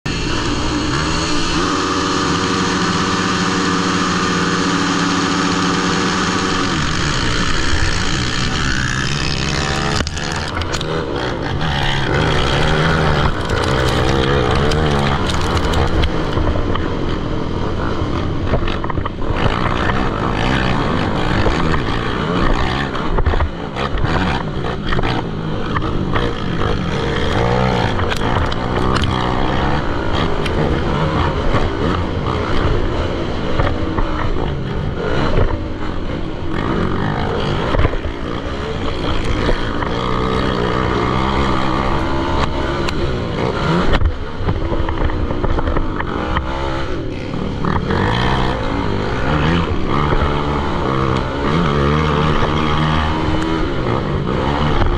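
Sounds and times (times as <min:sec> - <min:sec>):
motocross bike engines revving: 0:00.1 - 0:54.9.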